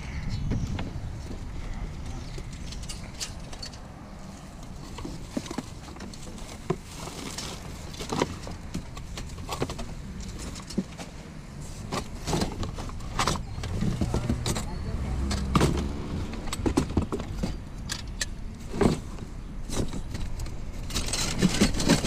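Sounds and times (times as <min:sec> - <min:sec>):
hands rummaging through junk: 0:02.1 - 0:22.0.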